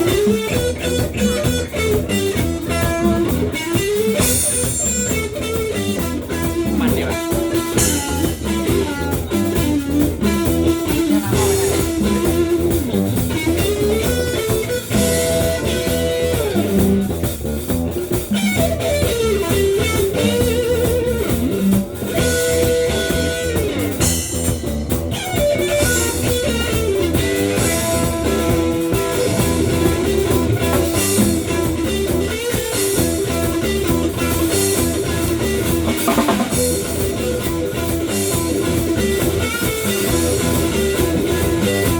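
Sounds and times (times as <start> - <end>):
bass guitar: 0.0 - 41.9
drum kit: 0.0 - 41.9
electric guitar lead: 0.0 - 41.9.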